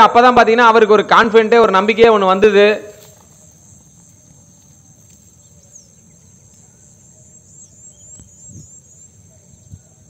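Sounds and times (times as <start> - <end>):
high insect drone: 1.1 - 10.0.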